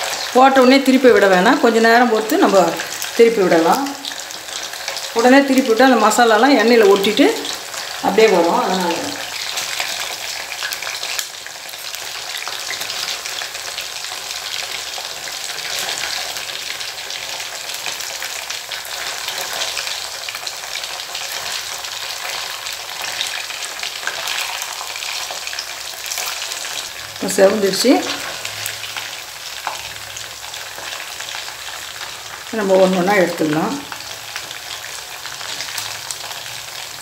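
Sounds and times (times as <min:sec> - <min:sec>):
oil sizzling and crackling: 0:00.0 - 0:37.0.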